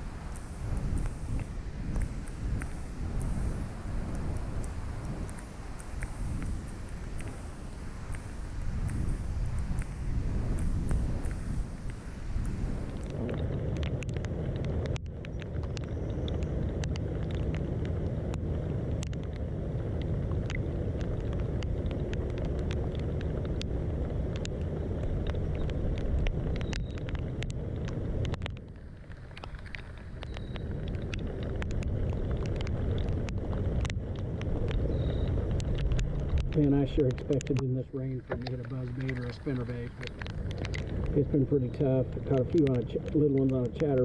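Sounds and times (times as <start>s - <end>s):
rain drops ticking: 0.0s - 44.0s
steady low rumble: 0.0s - 44.0s.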